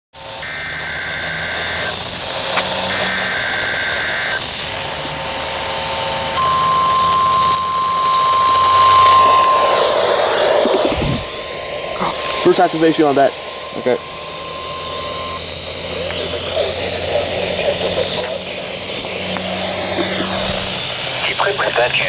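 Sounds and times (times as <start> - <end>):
screeching digital header bursts: 0.2 - 22.0
steady hiss: 0.2 - 22.0
steady single-pitch alert tone: 0.2 - 22.0.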